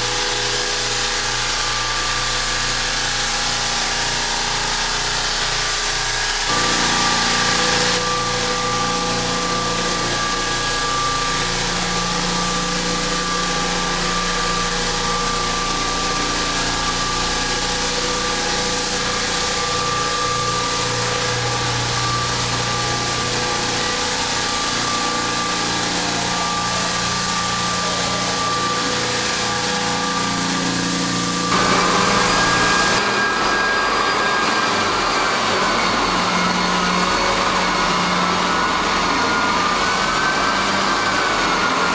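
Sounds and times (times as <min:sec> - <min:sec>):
floor sanding machine: 0:00.0 - 0:41.9.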